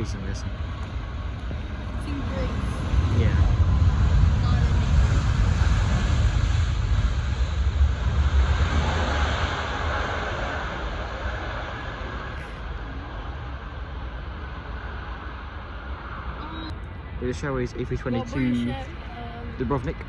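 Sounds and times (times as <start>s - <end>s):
jet engines roaring: 0.0s - 20.0s
wind rumble on microphone: 0.0s - 20.0s.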